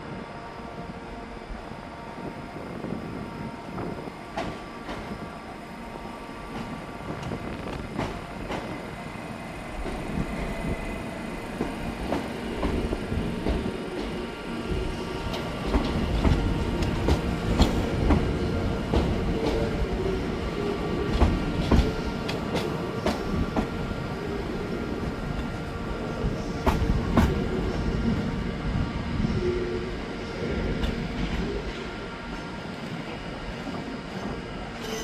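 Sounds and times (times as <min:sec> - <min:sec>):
train rumbling on track: 0:00.0 - 0:35.0.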